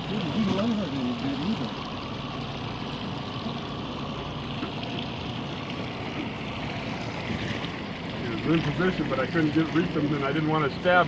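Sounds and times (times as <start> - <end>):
boat motor humming: 0.0 - 11.0
water rushing along hull: 0.0 - 11.0.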